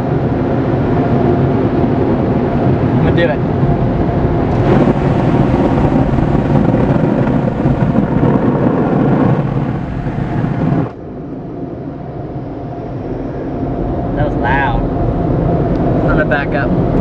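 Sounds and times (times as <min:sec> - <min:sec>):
car wash dryer blowers roaring: 0:00.0 - 0:17.0.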